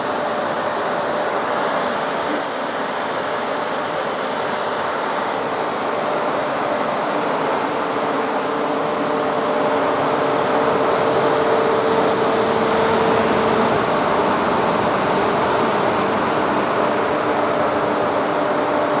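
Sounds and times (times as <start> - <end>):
fans rushing air: 0.0 - 19.0.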